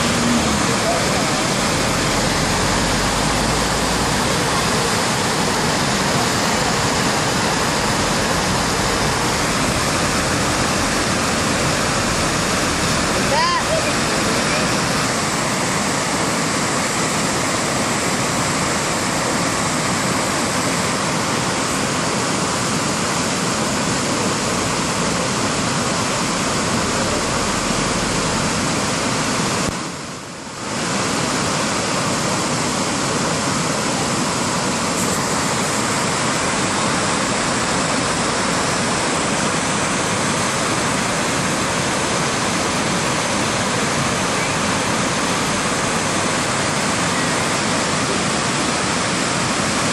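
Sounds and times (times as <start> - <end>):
whitewater rapids rushing: 0.0 - 49.9.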